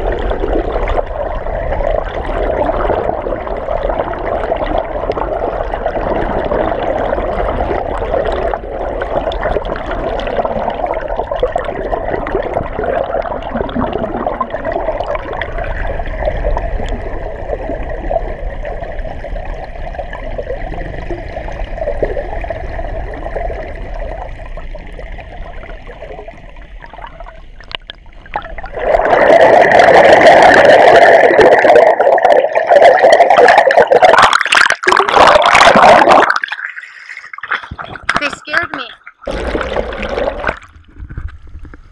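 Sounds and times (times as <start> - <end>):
muffled underwater water rushing: 0.0 - 41.9
water churning: 0.0 - 41.9.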